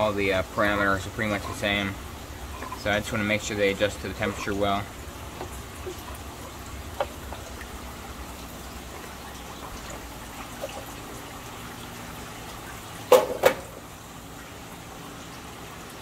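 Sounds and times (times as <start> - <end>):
aquarium water trickling: 0.0 - 16.0.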